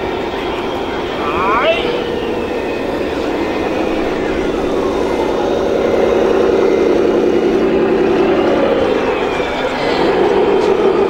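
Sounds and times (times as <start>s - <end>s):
model trucks droning hum: 0.0s - 11.0s
whine gliding down in pitch: 0.0s - 11.0s.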